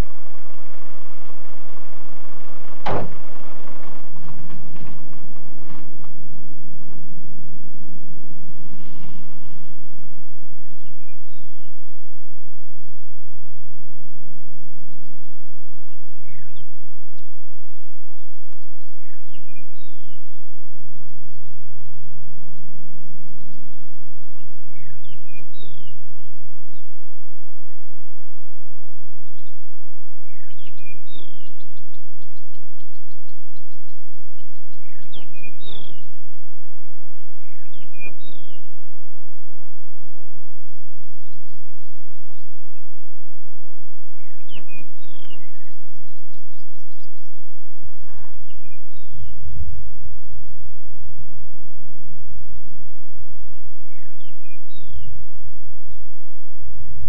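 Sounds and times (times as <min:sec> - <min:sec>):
birds chirping and whistling: 0:00.0 - 0:27.0, 0:29.3 - 0:38.9, 0:40.1 - 0:43.4, 0:44.0 - 0:49.8, 0:53.8 - 0:56.0
steady low drone: 0:00.0 - 0:57.0.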